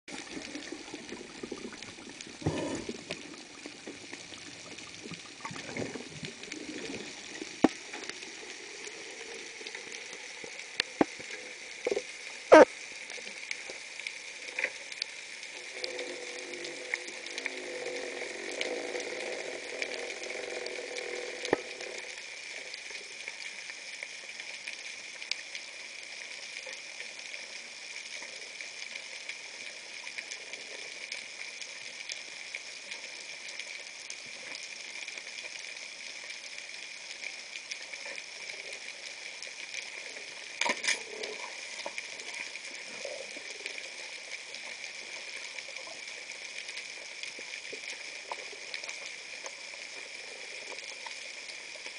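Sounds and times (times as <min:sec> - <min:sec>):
underwater crackling hiss: 0:00.1 - 0:51.9.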